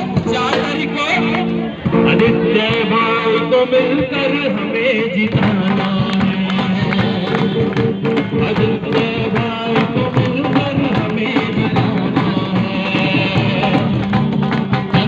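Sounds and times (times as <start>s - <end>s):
person singing: 0.0s - 14.3s
instruments with drum beat: 0.0s - 15.0s.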